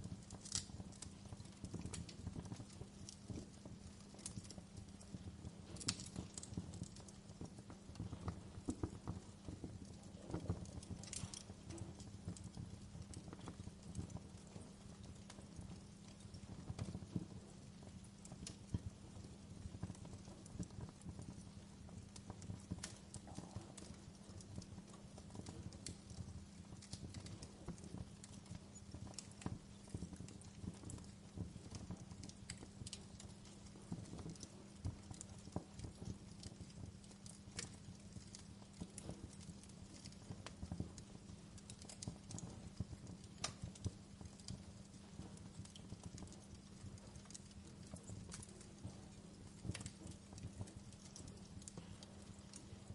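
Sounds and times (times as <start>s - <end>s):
low fire rumble: 0.0s - 52.9s
wood fire crackling and popping: 0.0s - 52.9s.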